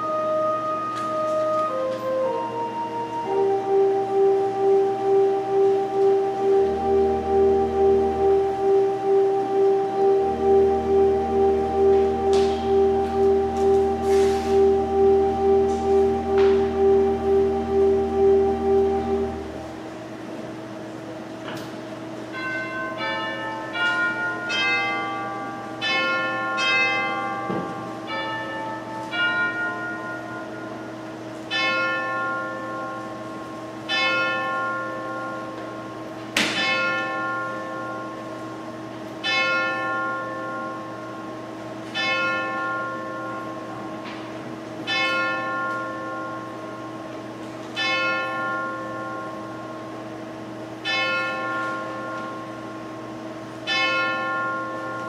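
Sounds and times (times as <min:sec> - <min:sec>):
church bell chimes: 0:00.0 - 0:19.9, 0:22.1 - 0:55.0
bell tolling: 0:00.0 - 0:20.0, 0:22.3 - 0:41.4, 0:42.0 - 0:47.1, 0:53.7 - 0:55.0.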